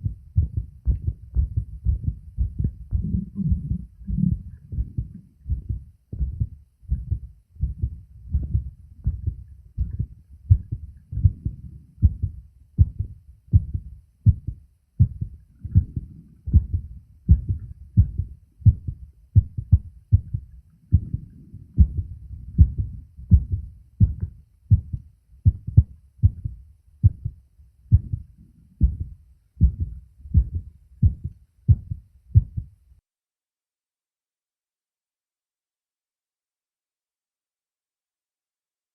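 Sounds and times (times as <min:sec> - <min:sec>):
heartbeat thumps: 0:00.0 - 0:32.8.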